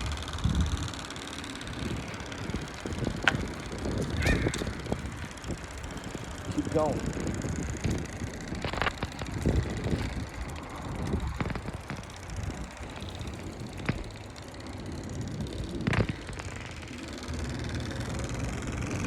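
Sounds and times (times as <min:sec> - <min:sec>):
bicycle clicks and rattles: 0:00.0 - 0:19.0
wind rumbling on microphone: 0:00.0 - 0:19.0.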